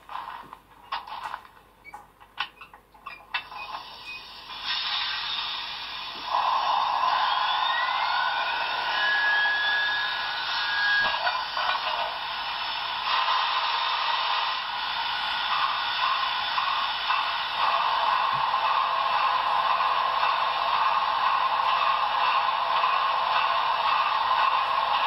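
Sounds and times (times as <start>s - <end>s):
steam locomotive hiss from speaker: 3.5s - 25.0s
thin rising whine: 4.5s - 25.0s.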